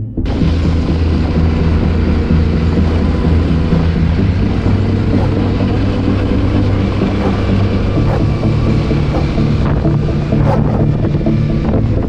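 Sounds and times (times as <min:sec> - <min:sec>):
motorcycle engine running: 0:00.0 - 0:12.0
wind noise: 0:00.2 - 0:12.0.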